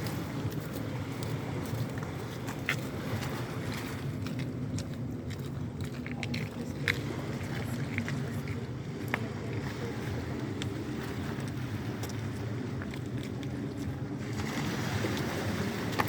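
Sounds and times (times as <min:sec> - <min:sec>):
sea surf rumbling: 0:00.0 - 0:04.8, 0:06.6 - 0:16.0.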